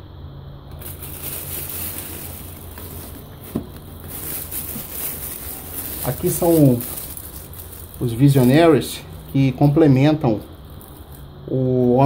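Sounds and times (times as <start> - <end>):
plastic crinkling: 0.7 - 11.3.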